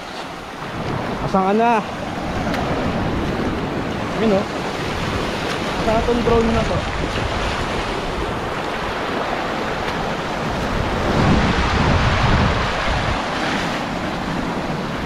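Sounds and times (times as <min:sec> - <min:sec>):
surf washing over rocks: 0:00.0 - 0:15.0
wind buffeting microphone: 0:00.0 - 0:15.0.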